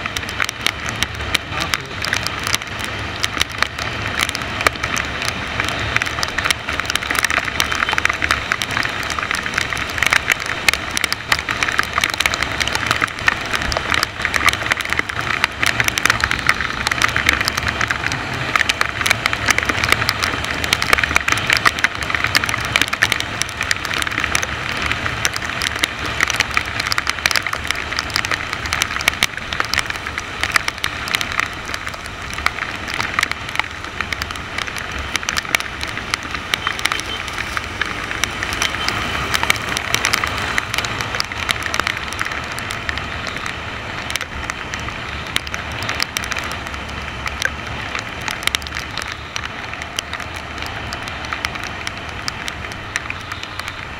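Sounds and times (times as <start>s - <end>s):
raindrops striking camera: 0.0s - 53.9s
wet road noise: 0.0s - 53.9s.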